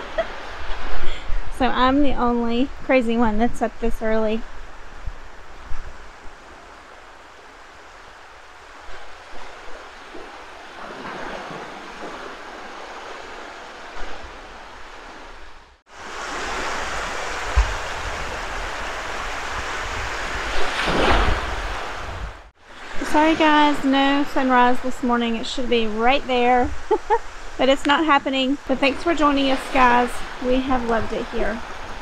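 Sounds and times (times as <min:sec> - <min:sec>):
wind gusting on microphone: 0:00.0 - 0:32.0
small waves breaking on beach: 0:04.4 - 0:32.0.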